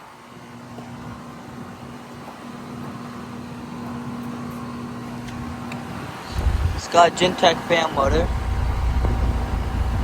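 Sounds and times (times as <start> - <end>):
condenser fan rushing: 0.0 - 10.0
heat pump humming: 0.0 - 10.0.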